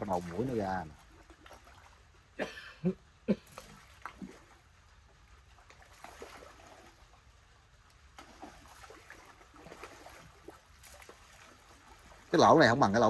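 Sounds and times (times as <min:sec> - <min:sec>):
faint water trickling and lapping: 0:00.0 - 0:13.0.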